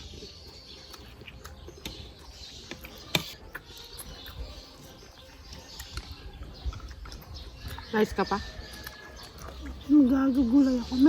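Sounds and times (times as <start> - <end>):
crunching and chewing food: 0.0 - 11.0.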